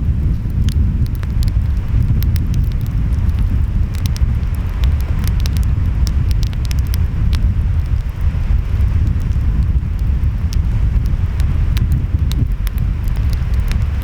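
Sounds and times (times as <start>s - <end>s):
wind: 0.0s - 14.0s
wood fire crackling: 0.0s - 14.0s.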